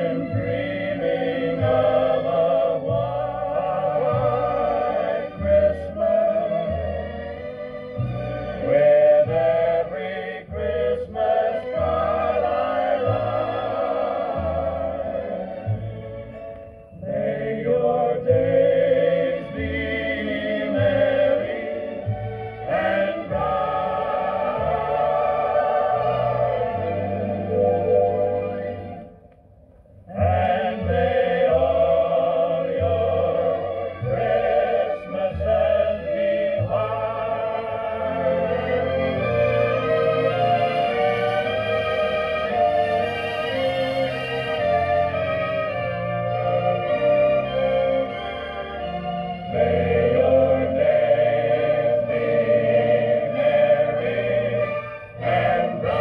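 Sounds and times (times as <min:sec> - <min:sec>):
voices singing on a record: 0:00.0 - 0:16.0, 0:17.0 - 0:29.1, 0:30.0 - 0:56.0.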